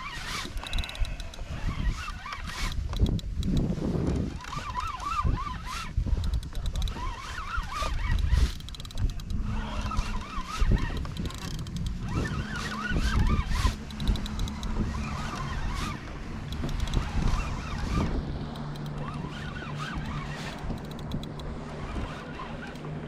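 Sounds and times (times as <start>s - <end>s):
wind buffeting microphone: 0.0s - 23.0s
light clicks: 0.5s - 5.0s, 6.0s - 7.1s, 7.9s - 9.4s, 10.0s - 22.9s.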